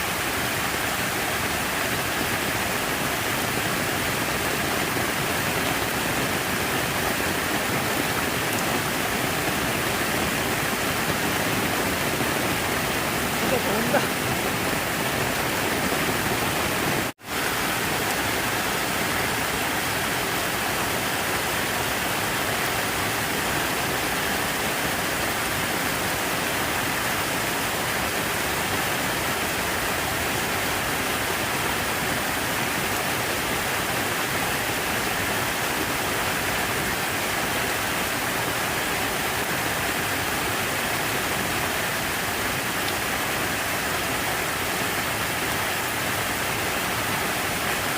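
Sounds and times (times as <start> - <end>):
falling water rushing: 0.0 - 47.9.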